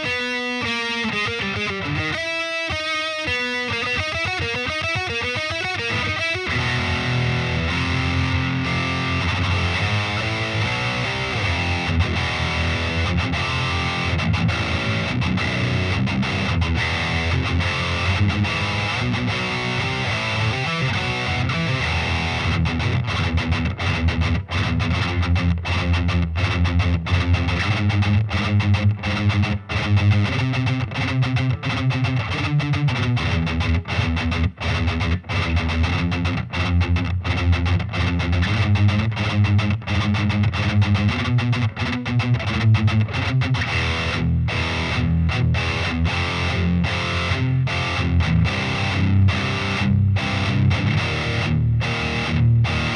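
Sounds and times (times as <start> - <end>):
distorted electric guitar riffing: 0.0 - 52.9.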